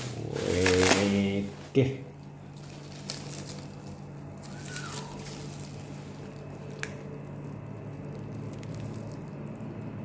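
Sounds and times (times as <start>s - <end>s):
packaging rustling: 0.0s - 9.7s
steady low hum: 0.0s - 10.0s.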